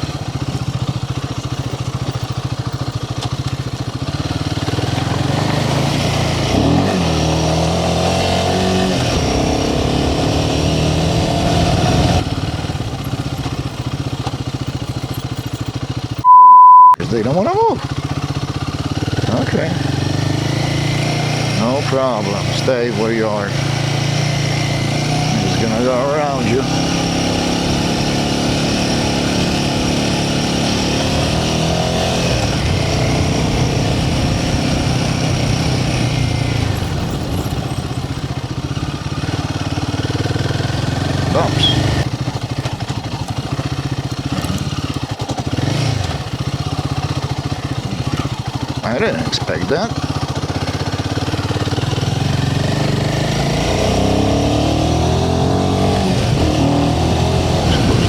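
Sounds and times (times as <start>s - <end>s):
motorcycle engine running: 0.0s - 16.3s, 17.0s - 58.0s.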